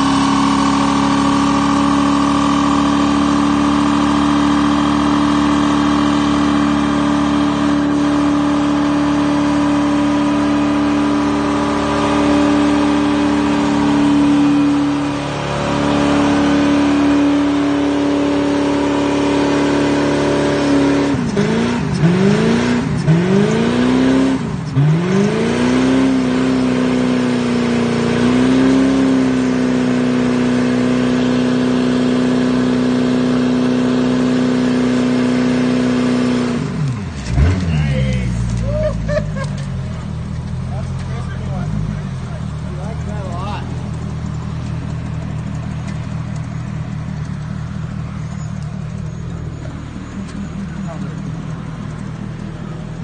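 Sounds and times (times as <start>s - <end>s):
car engine revving high: 0.0s - 53.0s.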